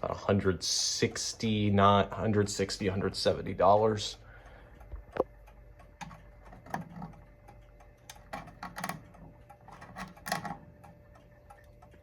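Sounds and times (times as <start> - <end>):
mantel clock ticking: 0.7 - 12.0.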